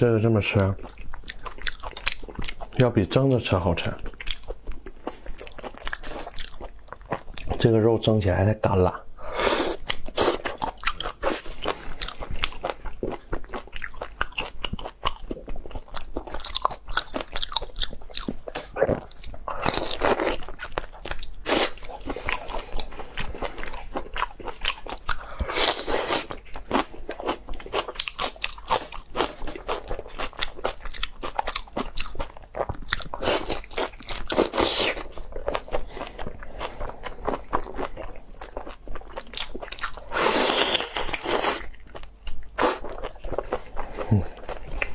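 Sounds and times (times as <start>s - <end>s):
person chewing with crunches: 0.5s - 2.9s, 3.8s - 7.7s, 9.3s - 44.9s.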